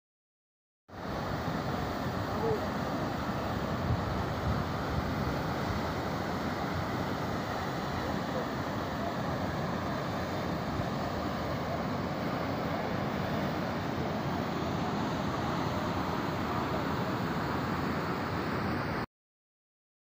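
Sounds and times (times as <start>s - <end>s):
water rushing over rocks: 1.0s - 19.0s.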